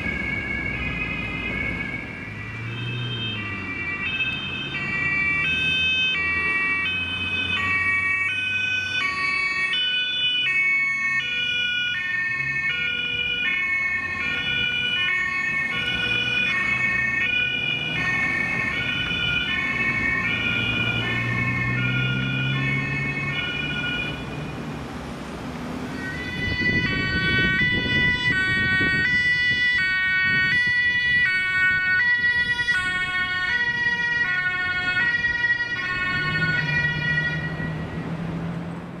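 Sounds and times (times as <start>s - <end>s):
two-tone police siren: 0.0s - 38.5s.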